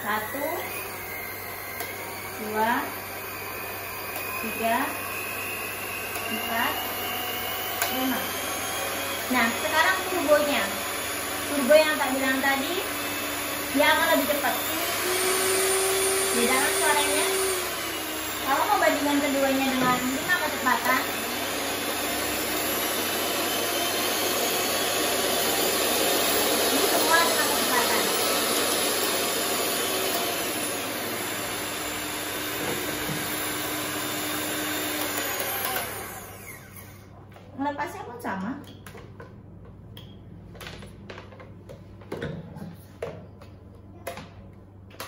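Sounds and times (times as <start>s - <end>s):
electric hand mixers whirring: 0.0s - 37.2s.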